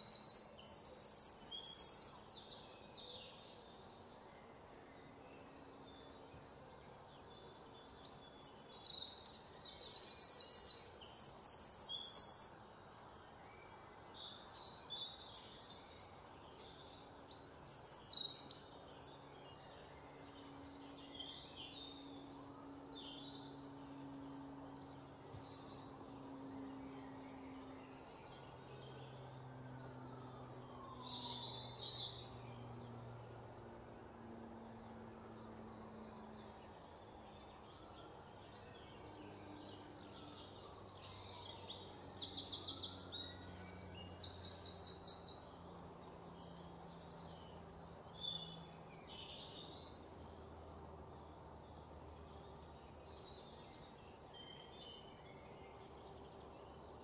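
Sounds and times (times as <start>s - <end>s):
faint low hum: 0.0s - 57.0s
small birds chirping: 0.0s - 57.0s.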